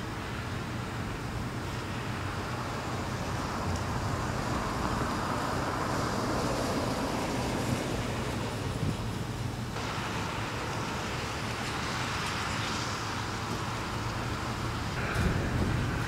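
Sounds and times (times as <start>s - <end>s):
road traffic rumble: 0.0s - 16.0s
wind: 0.0s - 16.0s.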